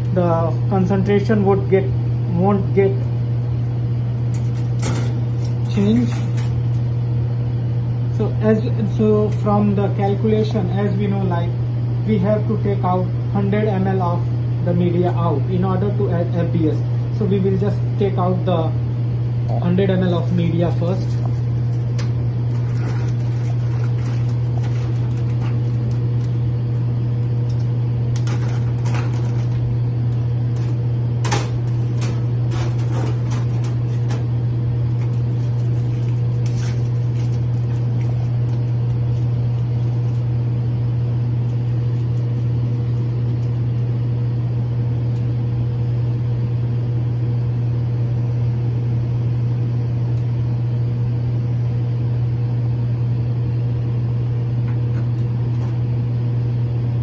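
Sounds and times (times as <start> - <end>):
blower fan humming: 0.0 - 57.0.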